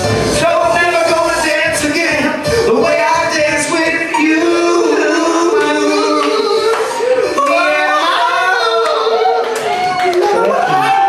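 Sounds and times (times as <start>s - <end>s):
men singing through a pa system: 0.4s - 9.6s.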